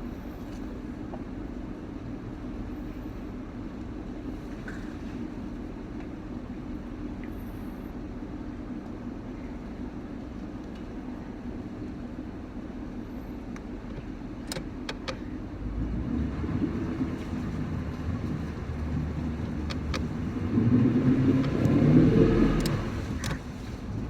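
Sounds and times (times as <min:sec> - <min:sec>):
outboard engine running: 0:00.0 - 0:24.0.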